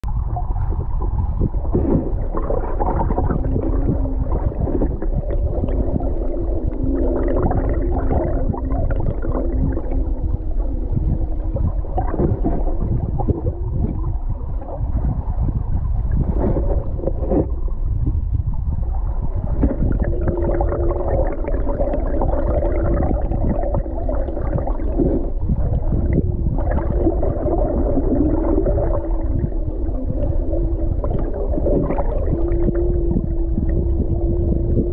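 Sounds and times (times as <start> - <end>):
crackles: 0.0 - 34.9
underwater river rumble and gurgling: 0.0 - 34.9
wavering humming tones: 0.1 - 34.9.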